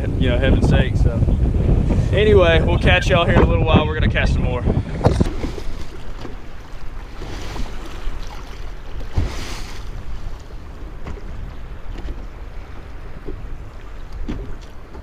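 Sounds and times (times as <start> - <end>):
waves washing against a boat: 0.0 - 15.0
wind rumbling on microphone: 0.0 - 15.0.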